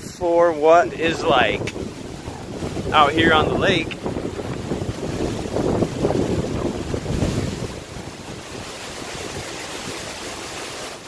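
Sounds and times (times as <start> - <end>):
wind buffeting microphone: 0.0 - 10.9
wind rushing through leaves: 0.0 - 11.0.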